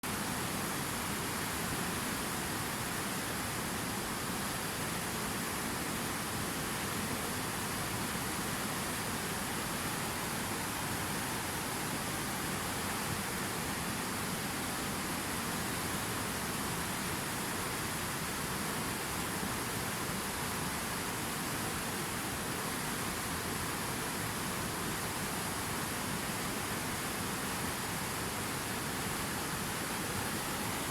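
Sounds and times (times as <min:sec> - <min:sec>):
water rushing: 0:00.1 - 0:30.9.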